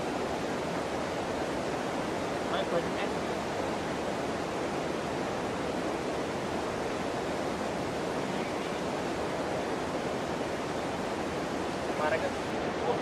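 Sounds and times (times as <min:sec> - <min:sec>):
river flowing: 0:00.0 - 0:13.0.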